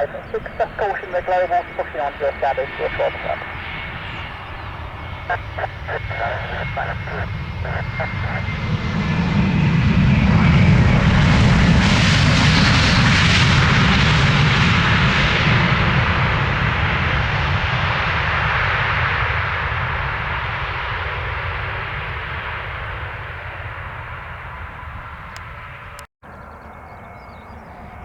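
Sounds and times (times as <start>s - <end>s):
jet aircraft passing: 0.0s - 28.0s.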